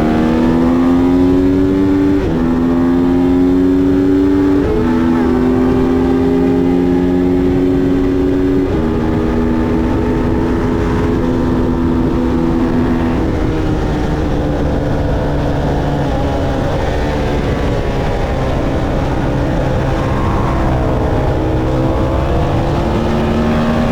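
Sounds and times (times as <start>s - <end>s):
motorcycle engine at high revs: 0.0s - 23.9s.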